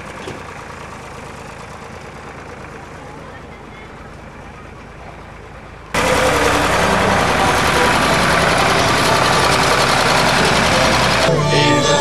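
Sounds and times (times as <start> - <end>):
engine running with hiss: 0.0 - 12.0.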